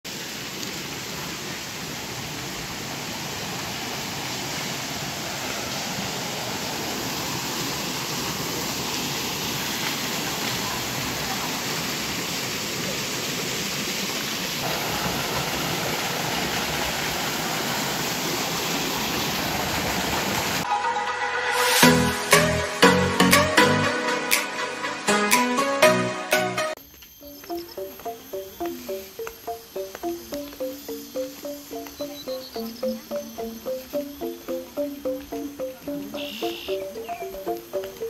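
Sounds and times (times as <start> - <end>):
stream running: 0.0 - 20.7, 27.2 - 38.0
spring water pouring down rock: 0.1 - 20.7, 27.4 - 38.0.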